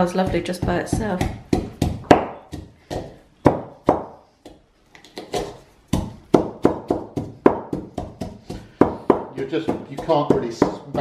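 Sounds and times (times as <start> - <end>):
pestle pounding in mortar: 0.0 - 4.2, 5.2 - 11.0.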